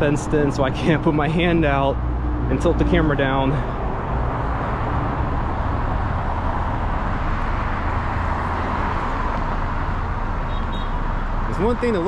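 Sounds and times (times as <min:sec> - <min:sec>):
highway traffic: 0:00.0 - 0:12.0.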